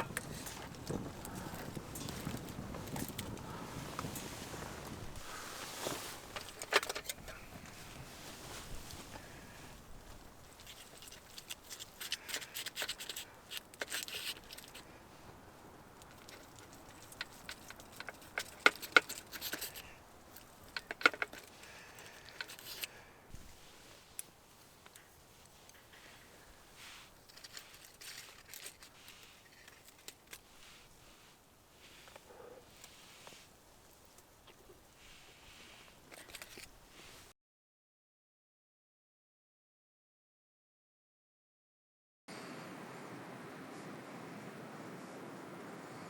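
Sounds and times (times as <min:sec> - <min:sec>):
rustling and crinkling: 0:00.0 - 0:37.3.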